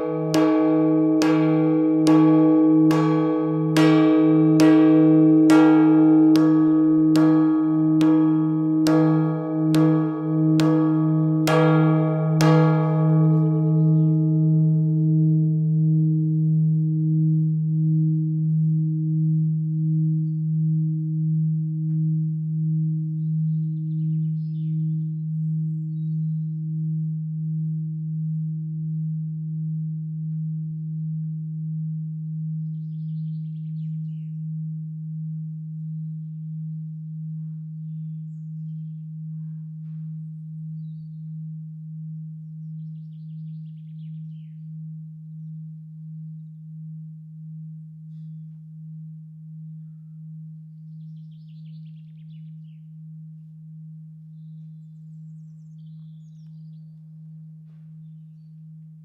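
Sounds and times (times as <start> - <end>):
bell hum wavering: 0.0 - 59.0.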